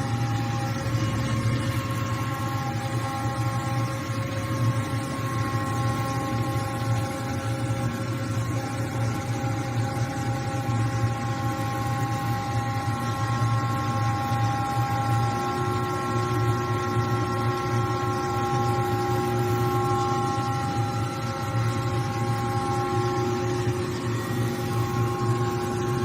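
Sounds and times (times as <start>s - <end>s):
metal-spinning lathe humming: 0.0s - 15.5s, 18.4s - 26.0s
lower whine: 0.0s - 26.0s.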